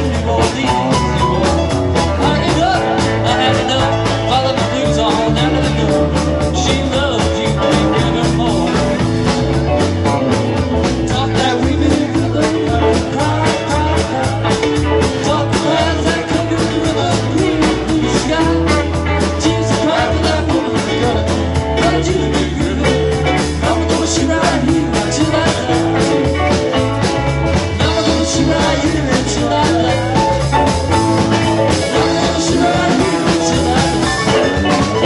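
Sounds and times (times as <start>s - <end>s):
rock band playing: 0.0s - 35.0s
steady drum beat: 0.0s - 35.0s.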